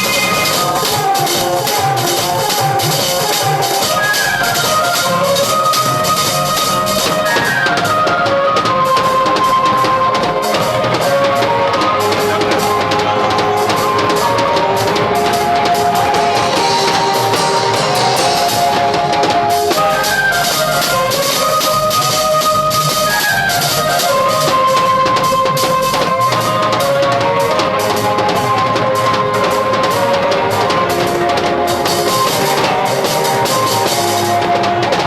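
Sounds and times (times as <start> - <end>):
drum kit beat: 0.0 - 35.0
lead instrument melody: 0.0 - 35.0.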